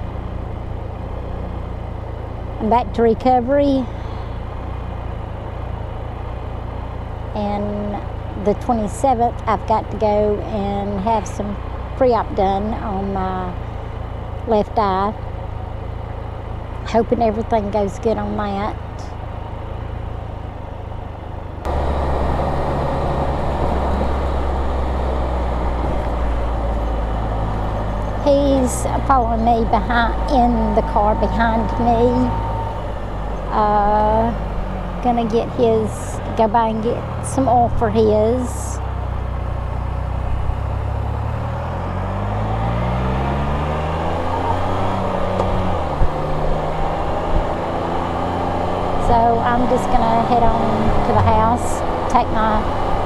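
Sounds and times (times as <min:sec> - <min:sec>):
engine droning: 0:00.0 - 0:53.0
road noise: 0:00.0 - 0:53.0.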